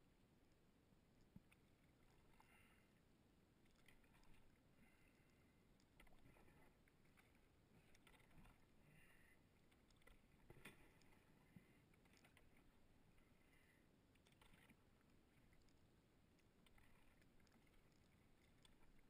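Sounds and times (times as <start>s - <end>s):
paddle strokes splashing: 3.6s - 19.0s.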